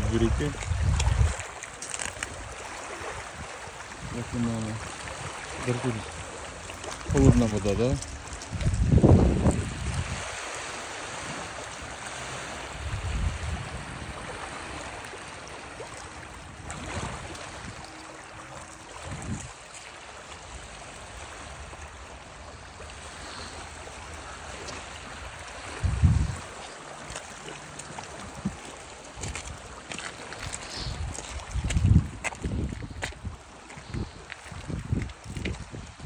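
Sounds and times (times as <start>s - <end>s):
stream water rushing: 0.0s - 36.0s.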